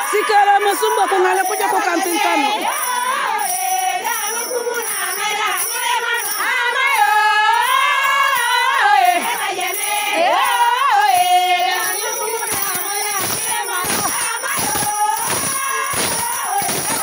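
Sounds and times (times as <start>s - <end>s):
steady high jingling: 0.0s - 17.0s
women singing: 0.0s - 17.0s.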